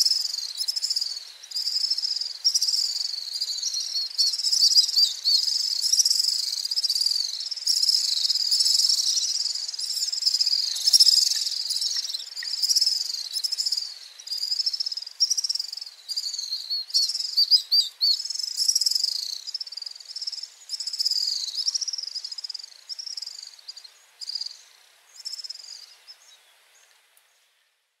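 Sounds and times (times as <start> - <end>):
swifts trilling and twittering: 0.0 - 26.9.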